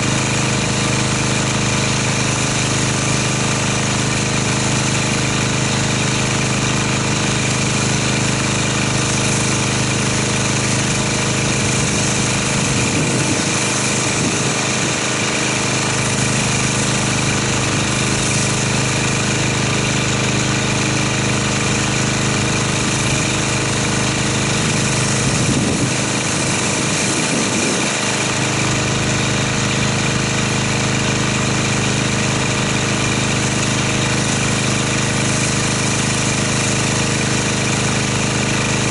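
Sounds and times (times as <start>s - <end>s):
water spray hissing: 0.0s - 30.1s, 31.5s - 38.9s
pressure washer motor hum: 0.0s - 38.9s.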